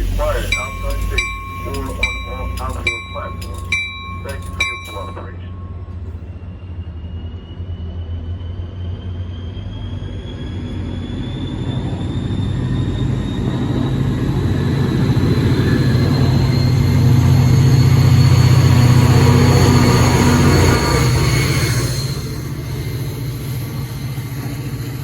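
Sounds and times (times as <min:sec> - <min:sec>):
diesel locomotive engine hum: 0:00.0 - 0:25.0
train whine rising in pitch: 0:00.0 - 0:25.0.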